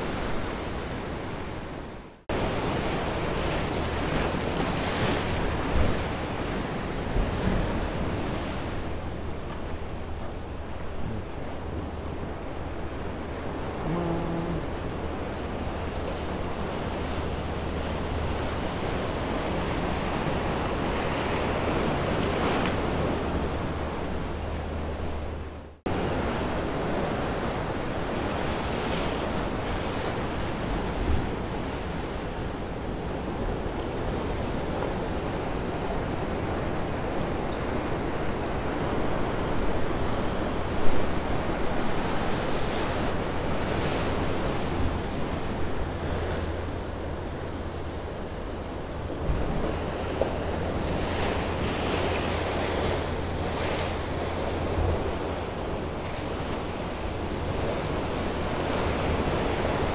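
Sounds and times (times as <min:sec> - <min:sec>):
surf washing over rocks: 0:02.3 - 0:24.8, 0:25.9 - 0:59.9.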